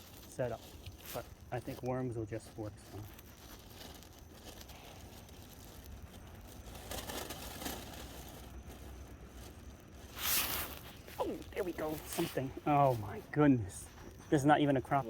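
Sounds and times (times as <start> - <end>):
faint rustling: 0.0 - 15.0.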